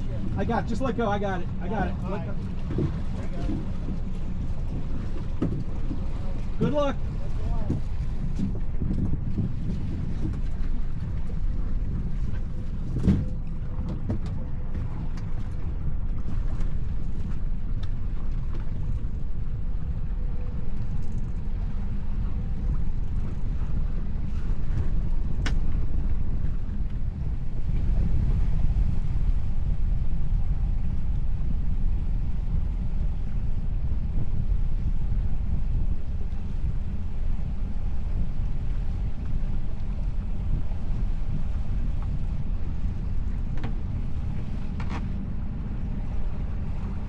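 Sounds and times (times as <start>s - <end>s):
boat engine rumbling: 0.0s - 47.0s
water noise: 0.0s - 47.0s
wind buffeting microphone: 0.0s - 47.0s.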